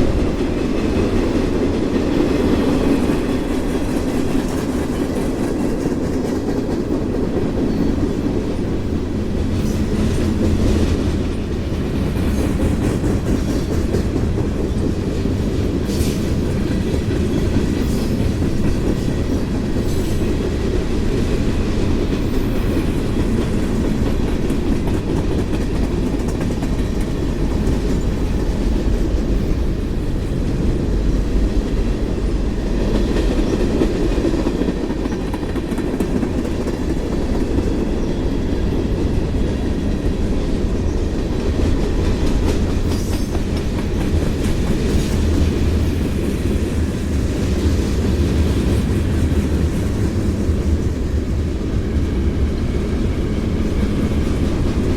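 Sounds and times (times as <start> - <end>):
freight train rolling on rails: 0.0 - 54.9.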